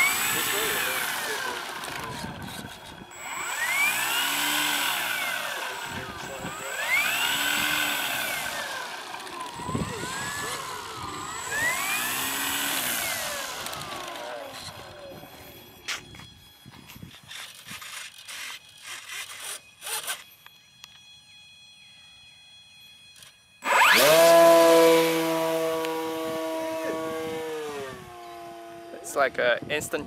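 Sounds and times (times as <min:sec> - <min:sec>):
electric motor and propeller whine: 0:00.0 - 0:30.0.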